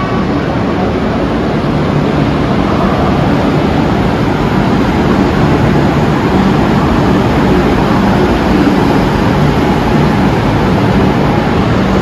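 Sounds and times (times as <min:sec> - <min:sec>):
low hum: 0:00.0 - 0:12.0
train wheels rumbling on rails: 0:00.0 - 0:12.0.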